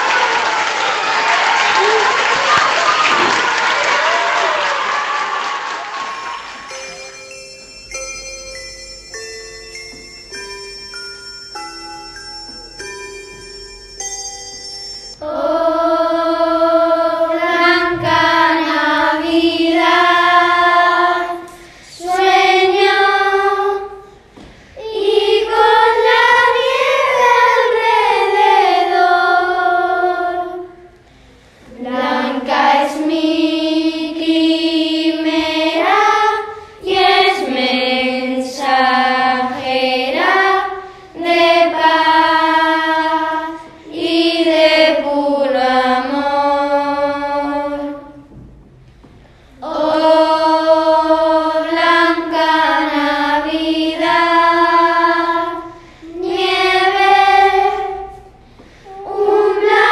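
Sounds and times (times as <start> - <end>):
children's choir singing: 0.0 - 48.5, 49.3 - 59.9.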